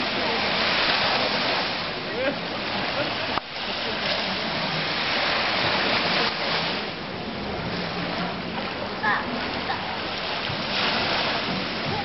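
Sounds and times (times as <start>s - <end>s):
wind and water rushing: 0.0s - 12.0s.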